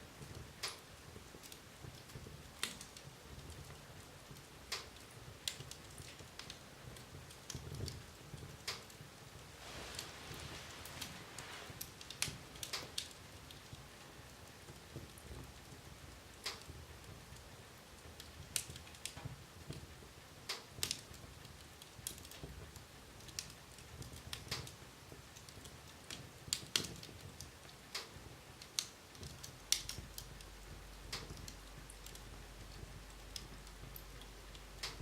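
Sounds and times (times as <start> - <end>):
faint steady low background: 0.0 - 35.0
wood fire crackling: 0.0 - 35.0.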